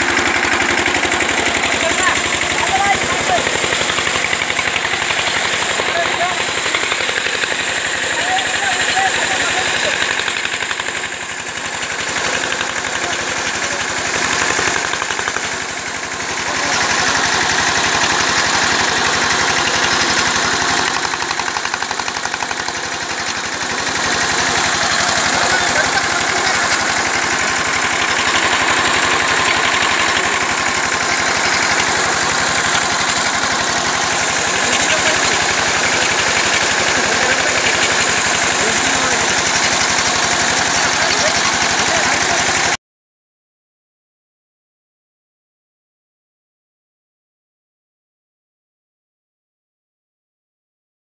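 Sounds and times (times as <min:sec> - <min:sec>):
water gushing from pipe: 0:00.0 - 0:42.7
tractor engine running: 0:00.0 - 0:42.8.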